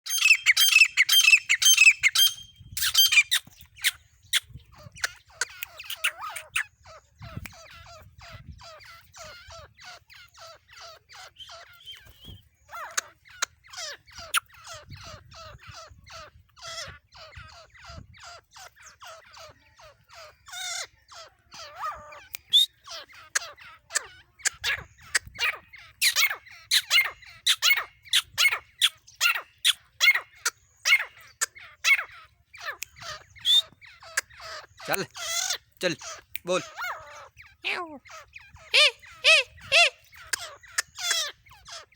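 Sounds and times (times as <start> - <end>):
francolin calling: 0.0 - 41.9.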